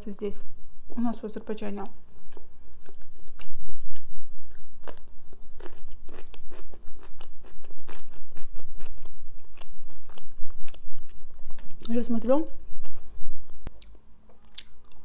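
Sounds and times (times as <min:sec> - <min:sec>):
crunching and chewing gherkin: 0:01.8 - 0:12.0, 0:12.7 - 0:15.0.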